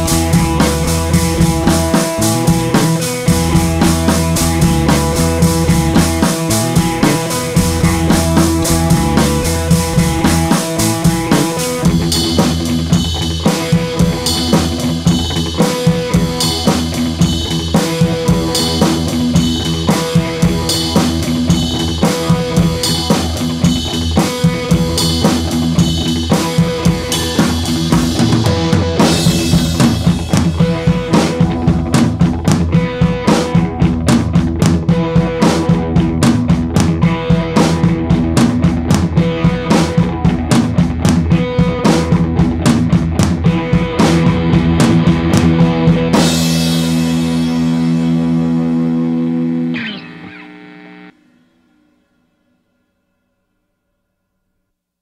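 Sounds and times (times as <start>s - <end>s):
background music with drum beat: 0.0s - 48.7s.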